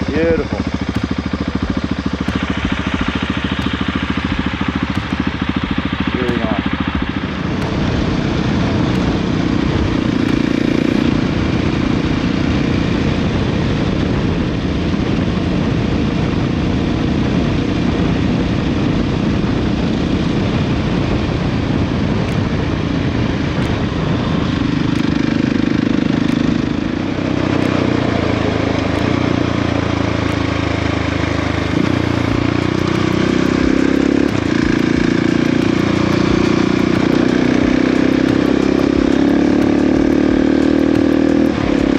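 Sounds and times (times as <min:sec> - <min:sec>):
wind rush: 0:00.0 - 0:38.0
motorcycle engine running: 0:00.0 - 0:41.9.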